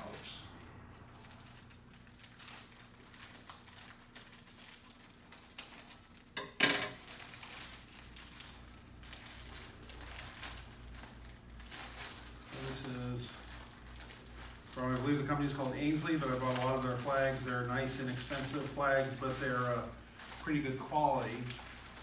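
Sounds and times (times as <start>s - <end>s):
packaging rustling and crinkling: 0.0s - 22.0s.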